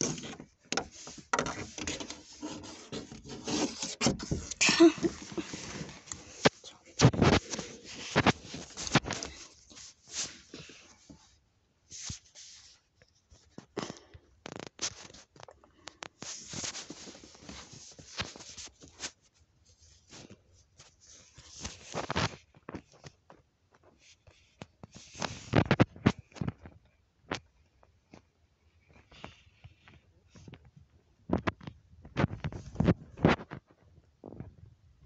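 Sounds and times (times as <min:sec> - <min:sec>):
fabric rustling against phone: 0:00.0 - 0:13.8, 0:14.4 - 0:27.4, 0:31.3 - 0:34.5.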